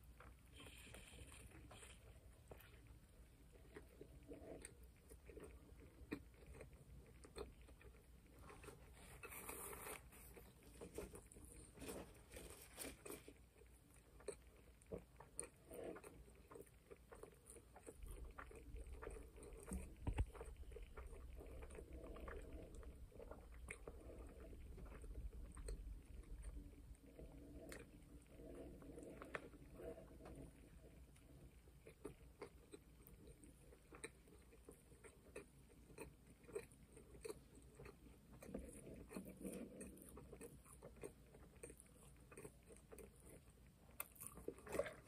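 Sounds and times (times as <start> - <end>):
person chewing burger: 0.1 - 45.0.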